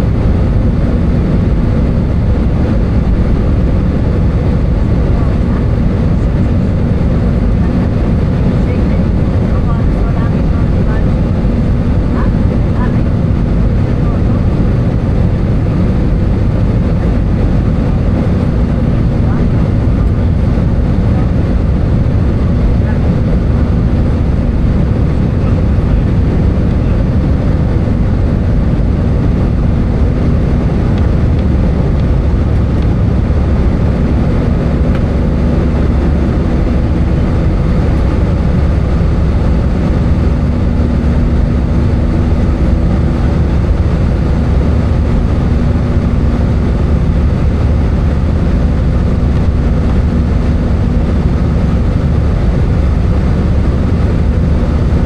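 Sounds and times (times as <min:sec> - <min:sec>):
aircraft engine drone: 0:00.0 - 0:55.0
faint constant hum: 0:00.0 - 0:55.0
rushing airflow: 0:00.0 - 0:55.0.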